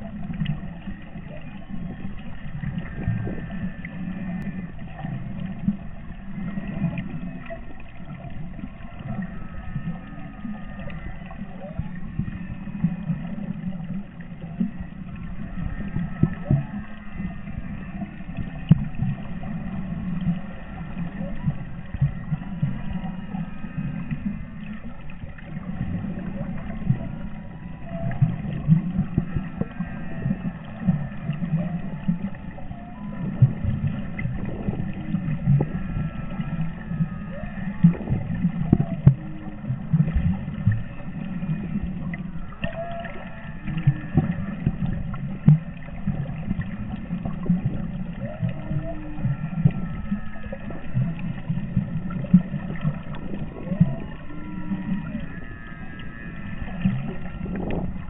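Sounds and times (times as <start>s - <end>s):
low underwater rumble: 0.0s - 58.0s
whale song: 0.0s - 58.0s.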